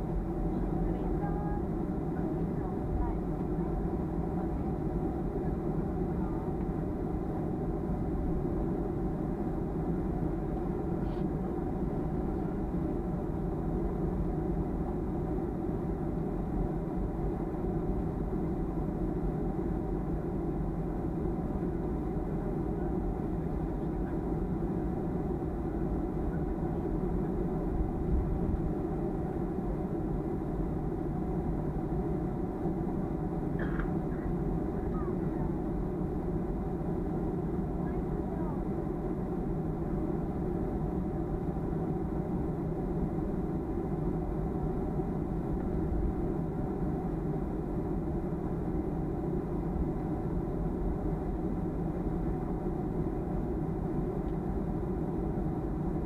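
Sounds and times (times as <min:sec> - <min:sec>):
airplane cabin rumble: 0:00.0 - 0:56.0
faint steady hums: 0:00.0 - 0:56.0.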